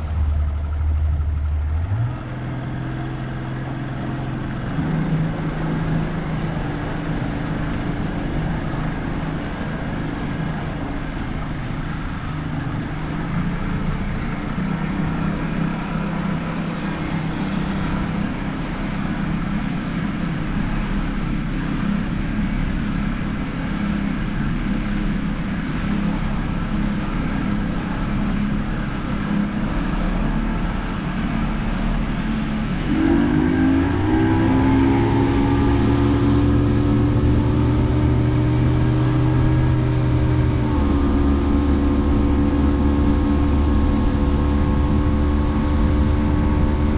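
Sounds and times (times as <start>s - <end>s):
motorboat engine running: 0.0s - 46.9s.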